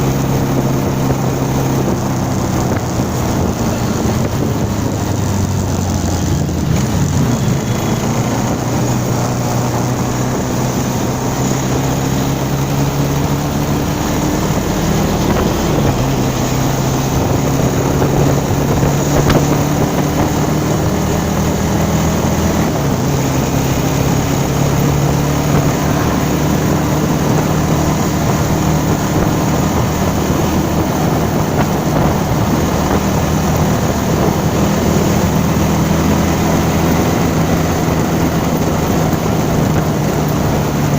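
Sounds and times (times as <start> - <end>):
motorcycle engine shifting gears: 0.0 - 40.9
wind on microphone: 0.0 - 40.9.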